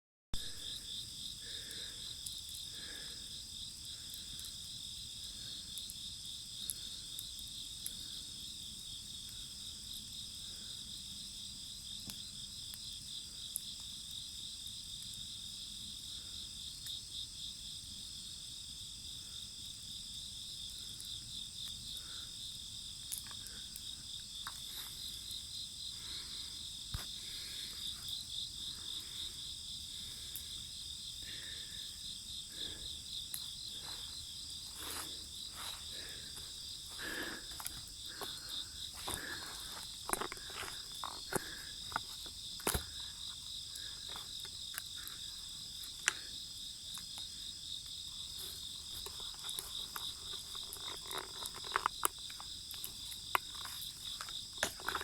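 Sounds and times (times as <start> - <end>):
crickets chirping: 0.4 - 55.0
wood fire crackling: 0.4 - 55.0.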